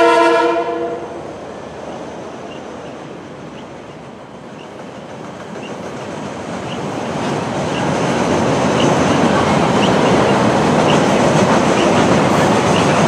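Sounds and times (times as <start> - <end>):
freight train rumbling over bridge: 0.0 - 13.0.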